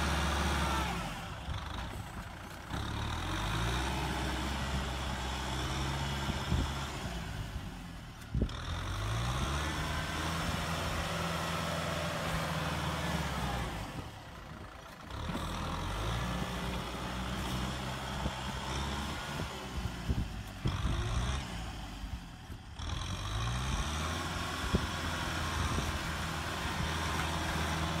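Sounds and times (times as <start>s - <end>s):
tractor diesel engine revving: 0.0s - 28.0s.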